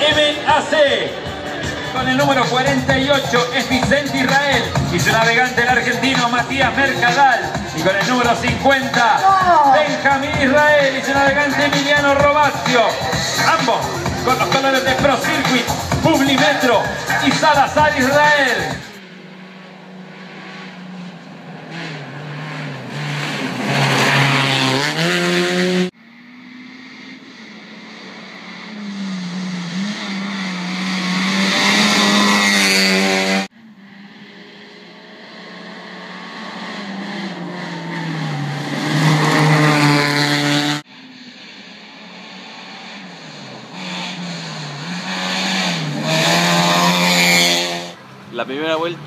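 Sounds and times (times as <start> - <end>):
rally car engine passing: 0.0 - 49.0.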